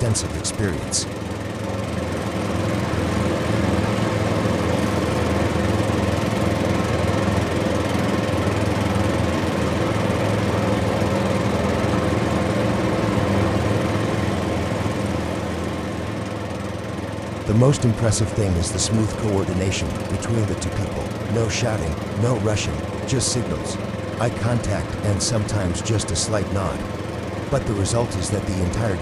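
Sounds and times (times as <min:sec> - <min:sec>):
truck diesel engine droning: 0:00.0 - 0:29.0.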